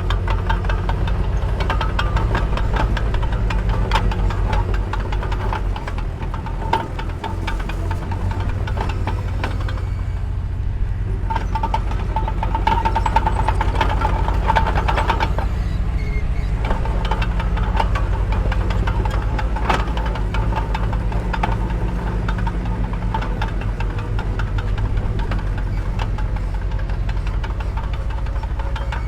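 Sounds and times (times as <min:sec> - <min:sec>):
heavy machinery diesel engine running: 0:00.0 - 0:29.0.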